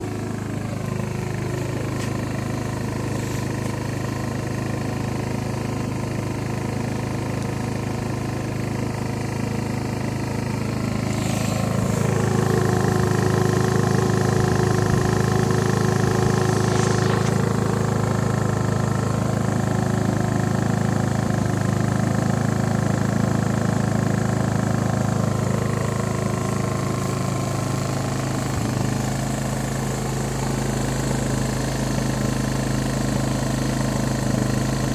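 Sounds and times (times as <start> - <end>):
generator running: 0.0 - 34.9.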